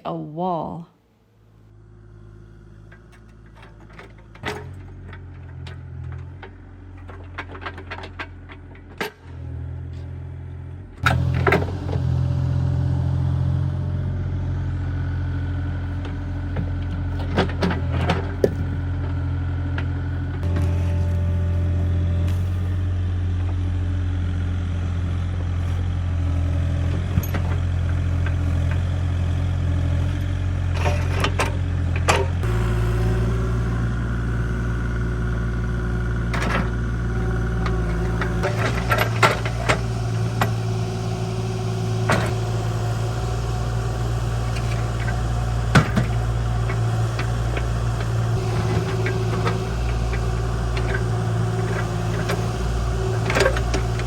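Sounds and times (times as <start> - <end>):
excavator diesel engine running: 1.6 - 54.0.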